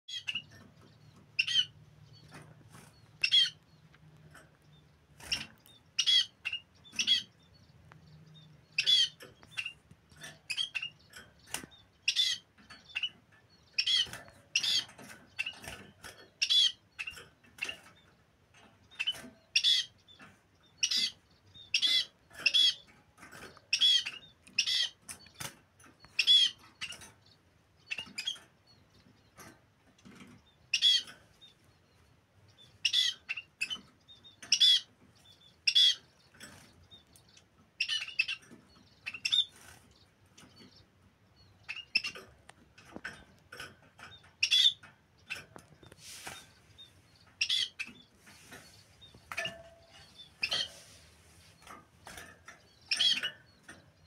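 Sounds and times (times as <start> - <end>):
small finches calling: 0.1 - 54.0.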